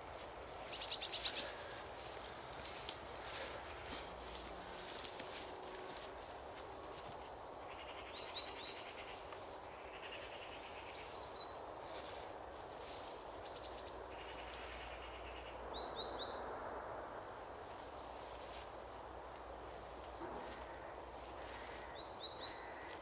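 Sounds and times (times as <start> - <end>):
outdoor background hiss: 0.0 - 23.0
small birds chirping: 0.6 - 17.0, 20.4 - 23.0.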